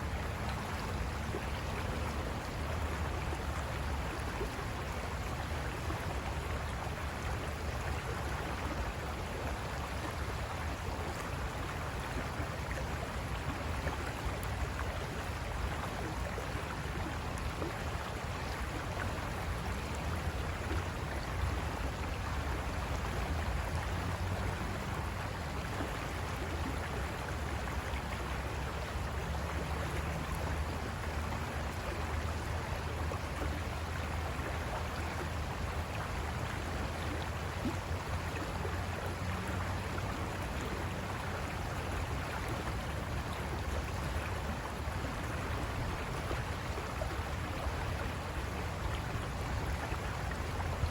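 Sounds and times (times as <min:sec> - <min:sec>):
river water rushing over rocks: 0:00.0 - 0:50.9.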